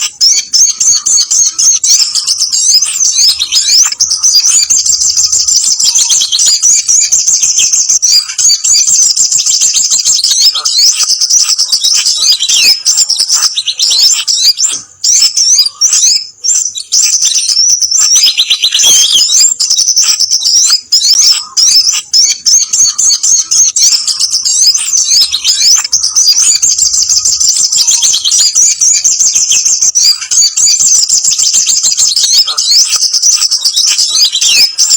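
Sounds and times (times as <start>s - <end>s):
sunbird rapid chattering calls: 0.0s - 34.9s.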